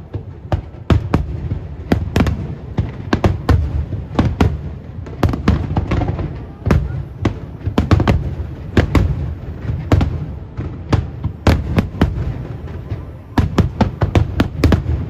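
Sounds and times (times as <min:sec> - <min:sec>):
low rumble of fireworks: 0:00.0 - 0:15.0.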